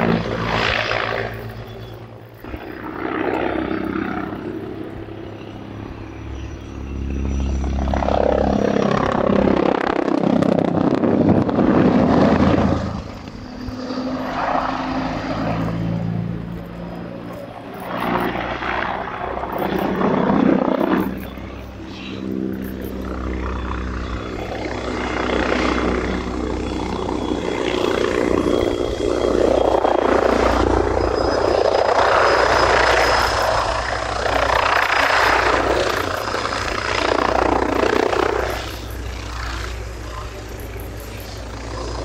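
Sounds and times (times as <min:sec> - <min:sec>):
helicopter rotor and turbines: 0:00.0 - 0:42.0.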